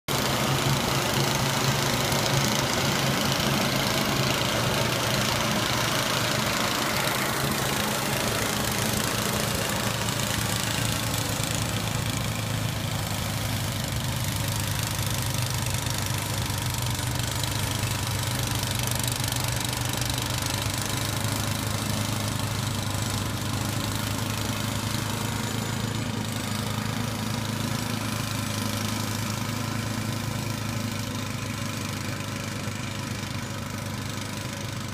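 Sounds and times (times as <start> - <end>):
tractor and snow blower running: 0.1 - 34.9.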